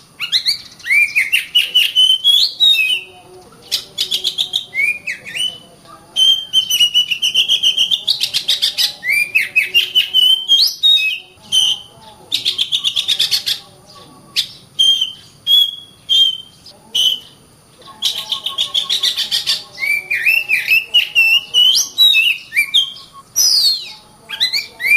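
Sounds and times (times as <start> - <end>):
bird singing chattering and whistles: 0.0 - 24.9.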